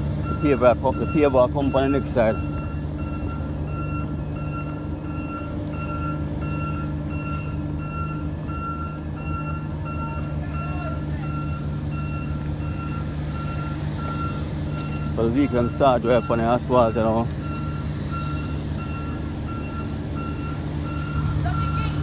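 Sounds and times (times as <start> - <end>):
diesel engine humming: 0.0 - 22.0
back-up alarm beeping: 0.1 - 22.0.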